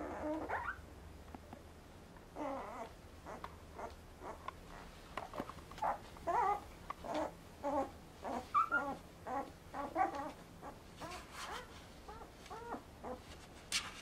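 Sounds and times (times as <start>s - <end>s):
puppies whimpering and squeaking: 0.0s - 0.9s, 2.4s - 13.3s.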